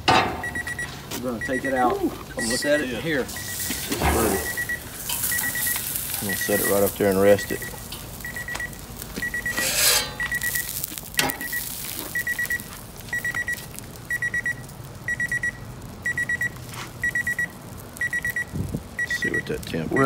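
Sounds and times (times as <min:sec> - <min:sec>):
cooking timer beeping: 0:00.2 - 0:20.0.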